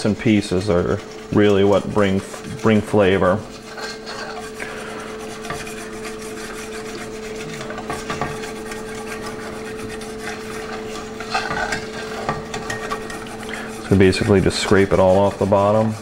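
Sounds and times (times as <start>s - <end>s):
utensil scraping a pan: 0.0s - 16.0s.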